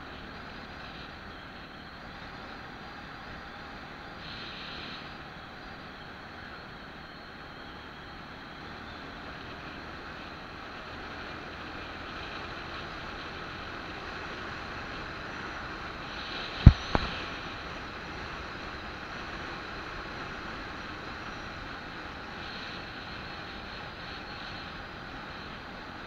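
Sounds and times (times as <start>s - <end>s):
wind and road noise: 0.0s - 26.0s.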